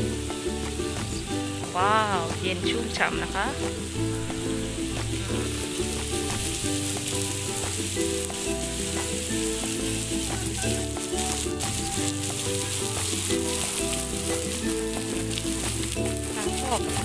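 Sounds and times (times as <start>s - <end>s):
background music: 0.0s - 17.0s
fountain water jetting and falling: 0.0s - 17.0s.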